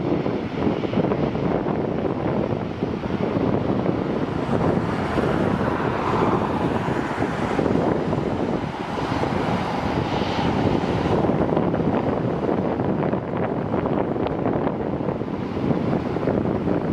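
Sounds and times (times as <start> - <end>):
jet engines rumbling: 0.0 - 16.9
wind buffeting microphone: 0.0 - 16.9.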